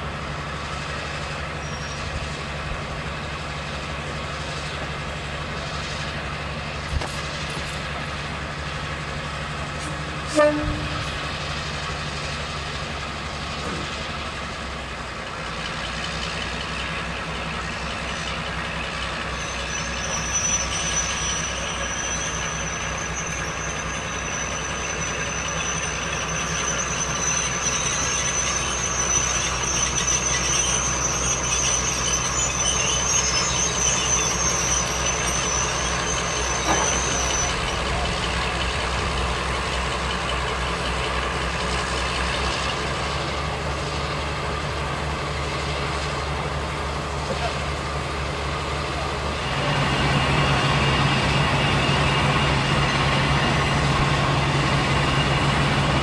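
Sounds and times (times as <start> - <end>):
diesel locomotive engines running: 0.0 - 56.0.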